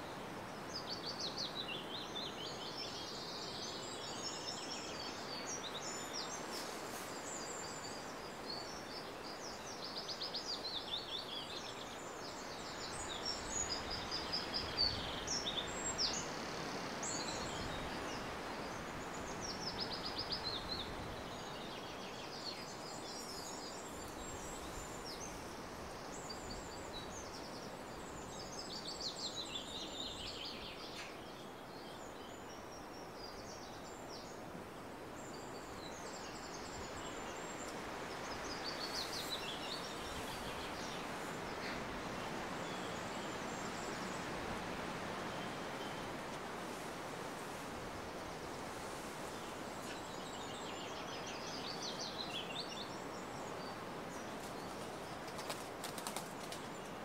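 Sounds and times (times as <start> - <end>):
songbirds singing and chirping: 0.0 - 57.0
steady background hiss: 0.0 - 57.0.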